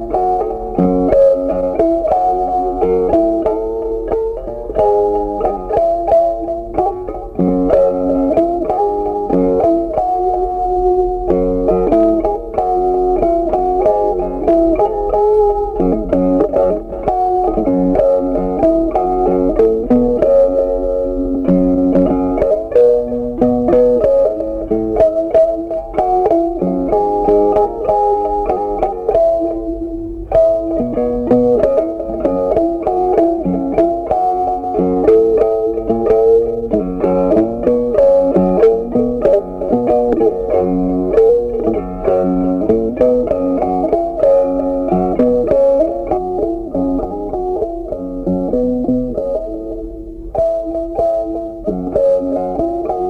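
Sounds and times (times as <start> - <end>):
plucked guitar music: 0.0 - 53.0.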